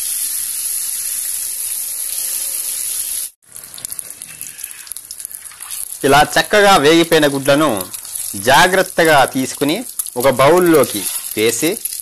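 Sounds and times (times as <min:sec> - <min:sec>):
hot oil sizzling: 0:00.0 - 0:12.0
oil crackles and pops: 0:00.0 - 0:12.0.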